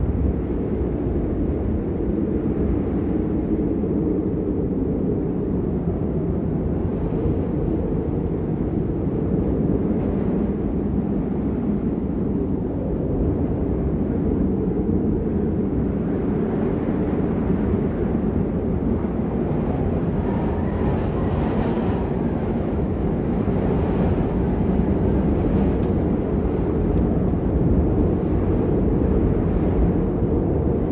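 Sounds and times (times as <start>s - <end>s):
low rushing wind: 0.0s - 30.9s.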